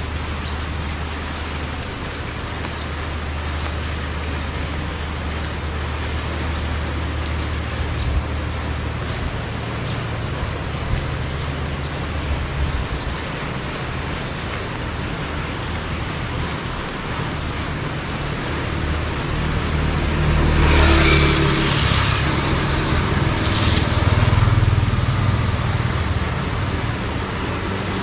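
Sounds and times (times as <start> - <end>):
heavy rain hissing: 0.0 - 28.0
motor traffic rumble: 0.0 - 28.0.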